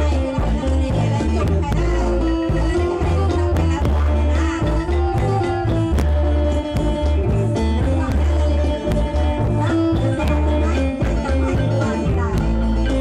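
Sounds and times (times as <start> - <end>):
drum beat with heavy bass: 0.0 - 13.0.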